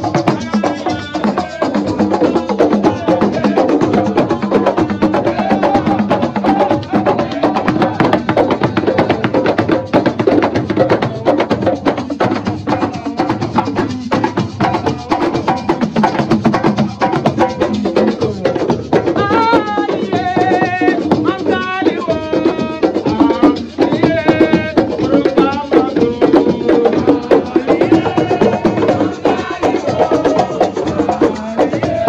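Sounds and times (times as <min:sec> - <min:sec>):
hand drumming: 0:00.0 - 0:32.0.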